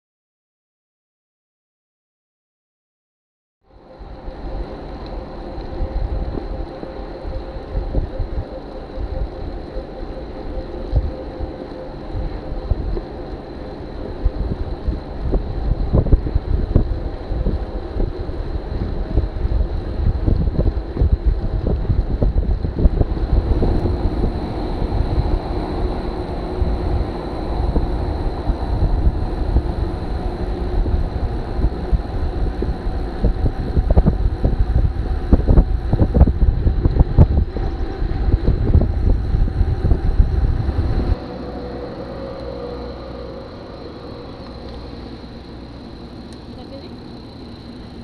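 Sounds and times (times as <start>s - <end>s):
wind buffeting microphone: 4.0s - 48.0s.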